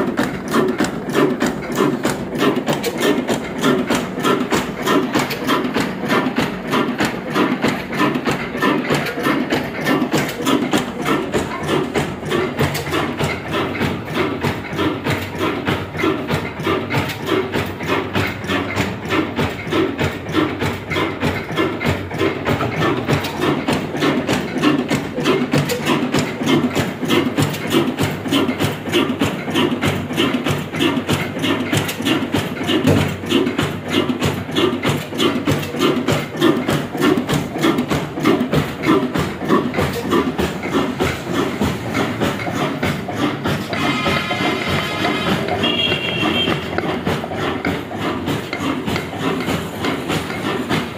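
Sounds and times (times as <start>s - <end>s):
diesel engine knocking steadily: 0.0s - 50.9s.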